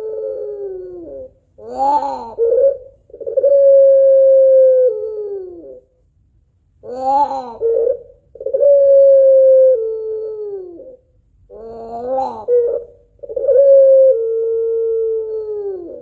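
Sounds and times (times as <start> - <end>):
dove cooing: 0.0 - 5.9, 6.8 - 16.0.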